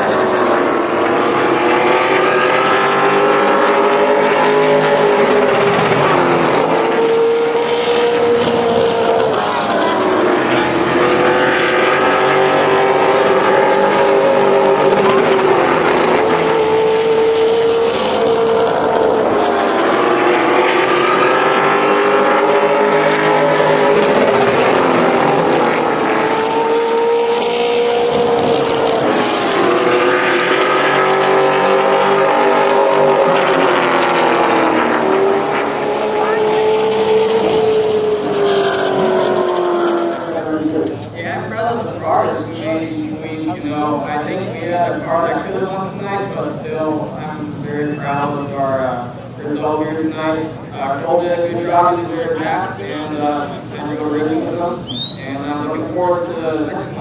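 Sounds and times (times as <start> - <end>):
race car engines lapping: 0.0 - 57.0.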